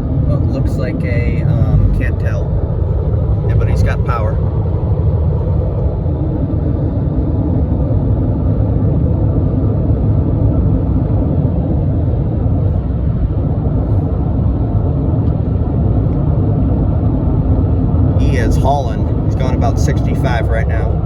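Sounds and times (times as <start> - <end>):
car road and wind rumble: 0.0 - 21.0.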